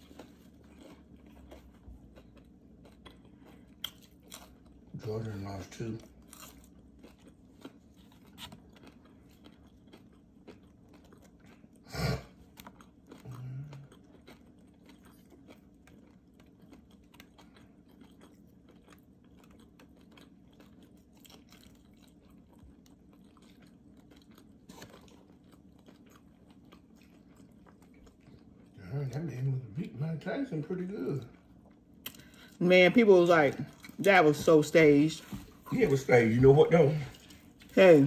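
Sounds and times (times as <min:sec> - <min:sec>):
person chewing crunchy food: 0:00.0 - 0:38.0.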